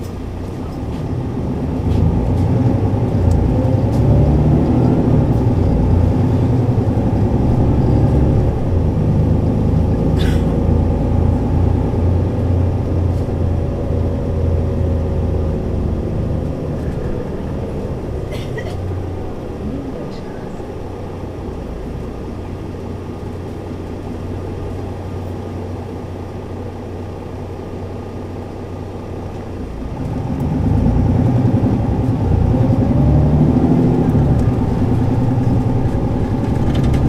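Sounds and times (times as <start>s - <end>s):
bus diesel engine accelerating: 0.0s - 37.0s
road rumble: 0.0s - 37.0s.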